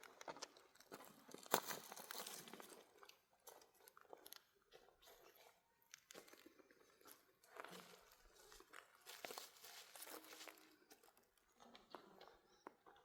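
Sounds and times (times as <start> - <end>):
faint crackles and rustles: 0.0 - 13.0.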